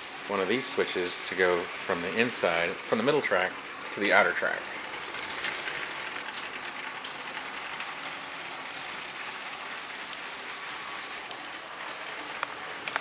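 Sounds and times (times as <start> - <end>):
toy train motor whirring: 0.0 - 13.0.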